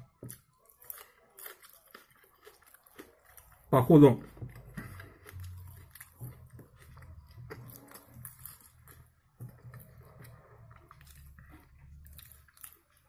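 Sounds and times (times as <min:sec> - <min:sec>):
soft chewing with mouth clicks: 0:00.0 - 0:13.0.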